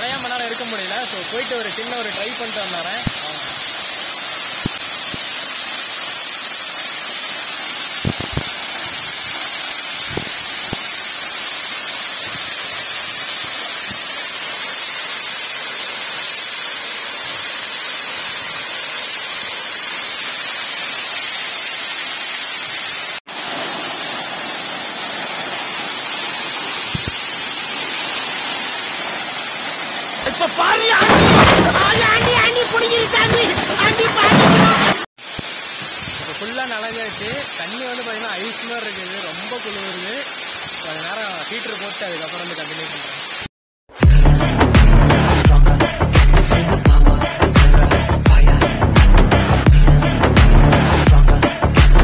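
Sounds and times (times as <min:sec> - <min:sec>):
waterfall splashing onto rocks: 0:00.0 - 0:43.5.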